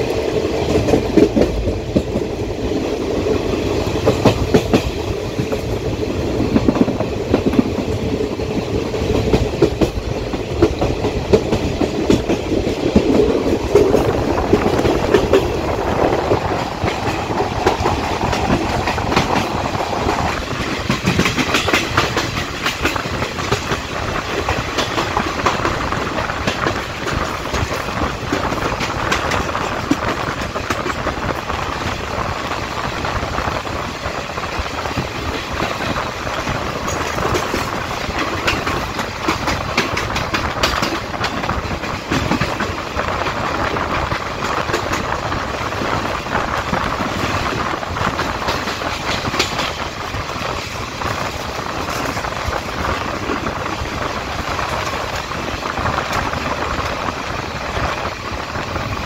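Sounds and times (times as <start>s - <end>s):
train coach rumble: 0.0s - 59.0s.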